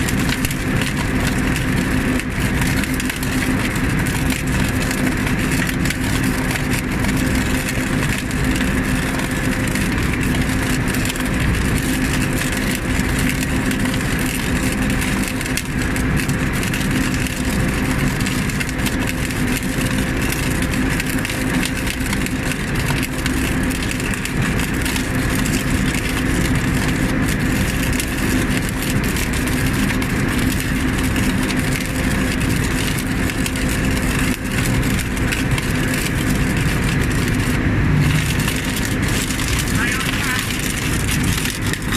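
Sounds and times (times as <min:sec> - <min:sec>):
machine engine humming: 0:00.0 - 0:41.9.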